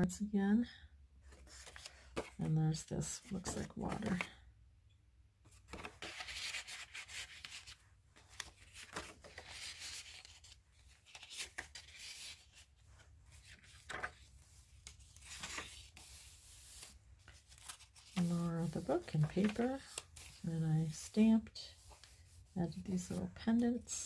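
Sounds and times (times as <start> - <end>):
paper and card rustling: 1.3 - 4.4, 5.5 - 24.0.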